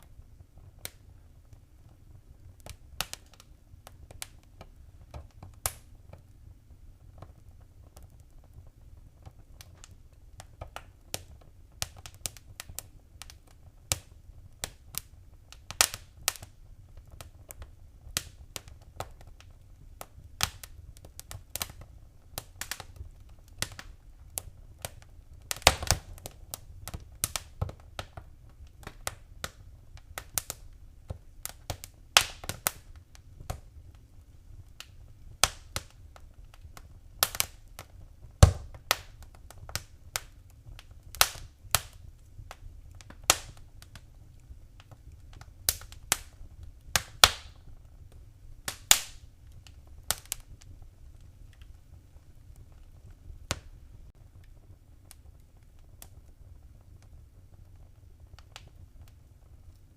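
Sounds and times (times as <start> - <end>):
low fire rumble: 0.0 - 59.9
wood fire crackling and popping: 0.0 - 59.9.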